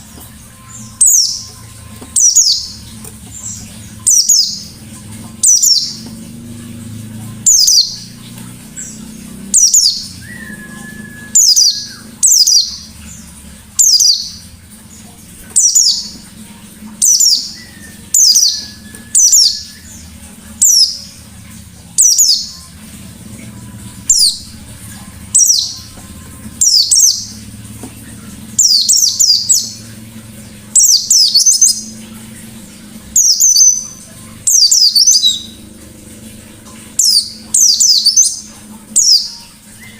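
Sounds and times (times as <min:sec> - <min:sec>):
bird singing high downward notes: 0:00.0 - 0:39.9.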